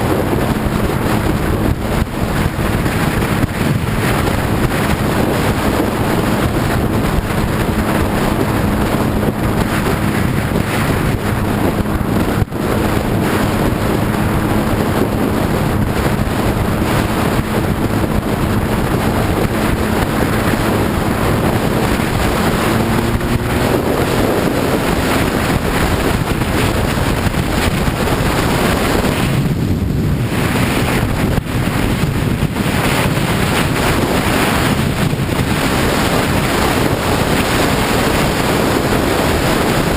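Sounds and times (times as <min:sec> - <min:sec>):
motorcycle engine drone: 0:00.0 - 0:39.9
wind rushing on microphone: 0:00.0 - 0:39.9.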